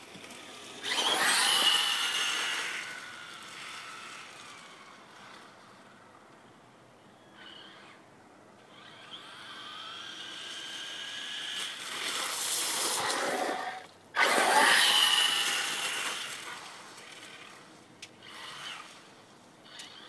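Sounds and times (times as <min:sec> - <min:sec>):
electric rc car motor whine: 0:00.0 - 0:06.0, 0:07.2 - 0:08.0, 0:08.6 - 0:20.0.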